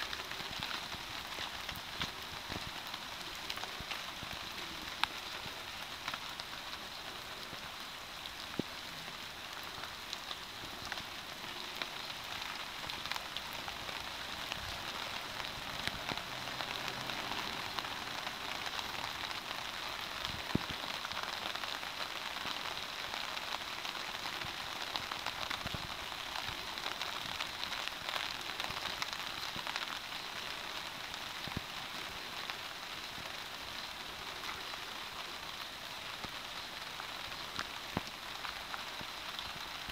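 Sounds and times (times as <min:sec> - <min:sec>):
large single raindrops: 0:00.0 - 0:39.9
rain on a tarp: 0:00.0 - 0:39.9.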